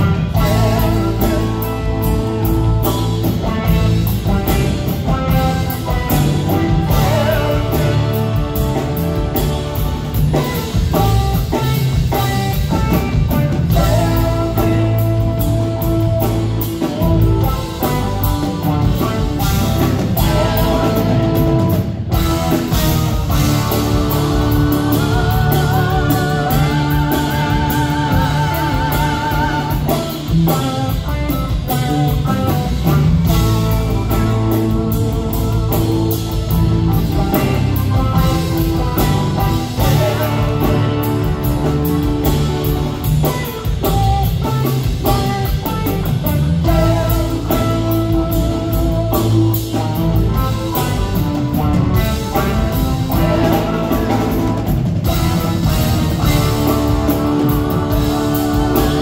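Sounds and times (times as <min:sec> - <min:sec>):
electric guitar lead notes: 0:00.0 - 0:59.0
rock band with orchestra: 0:00.0 - 0:59.0.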